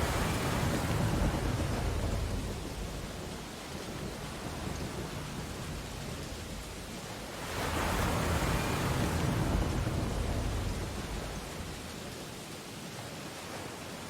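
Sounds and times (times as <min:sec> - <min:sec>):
ocean waves on a beach: 0:00.0 - 0:14.0.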